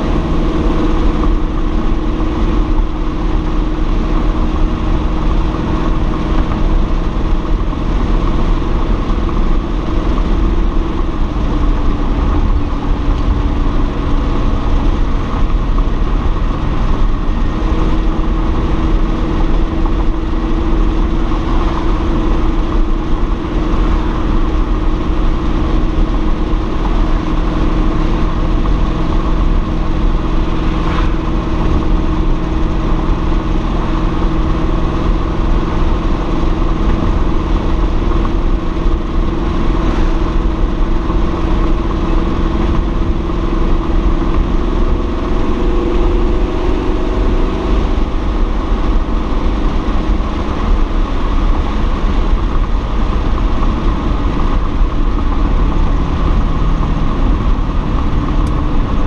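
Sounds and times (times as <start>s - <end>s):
car engine cruising: 0.0s - 59.0s
road noise: 0.0s - 59.0s.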